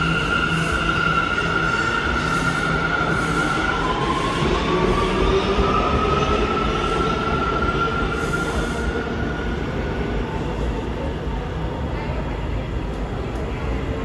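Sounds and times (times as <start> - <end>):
subway train running: 0.0 - 14.0.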